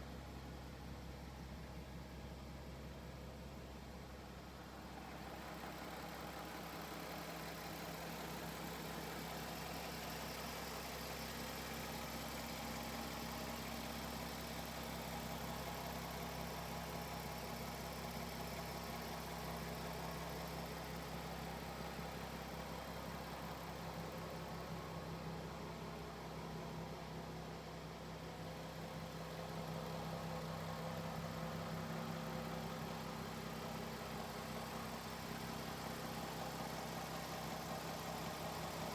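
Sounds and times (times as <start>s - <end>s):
car engine idling: 0.1s - 38.9s.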